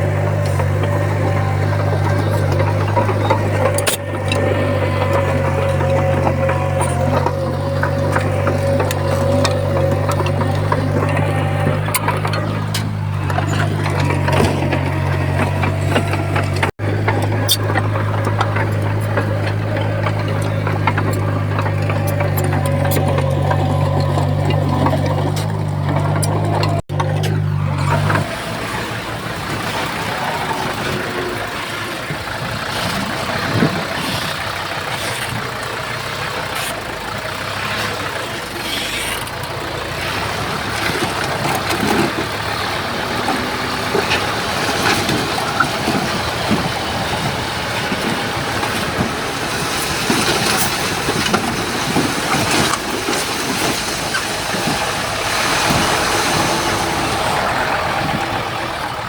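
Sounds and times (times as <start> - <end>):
clanks and knocks: 0.0 - 37.0, 37.8 - 58.6
heavy diesel machinery running: 0.0 - 59.0.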